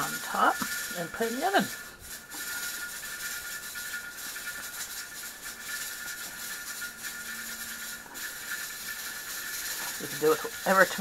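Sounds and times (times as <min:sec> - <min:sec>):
fine fast rattle: 0:00.0 - 0:11.0
pressure canner venting steam: 0:00.0 - 0:11.0.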